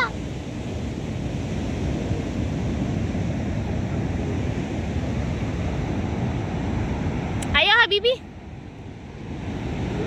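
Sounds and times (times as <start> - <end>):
heavy surf breaking: 0.0 - 10.0
wind rumbling on microphone: 0.0 - 10.0.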